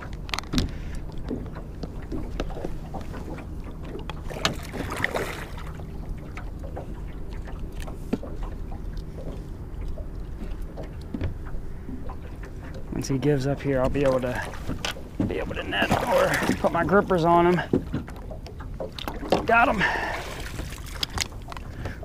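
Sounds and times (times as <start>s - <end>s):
gear knocking on boat: 0.0s - 22.0s
low steady hum: 0.0s - 22.0s
water slapping boat hull: 0.0s - 22.0s.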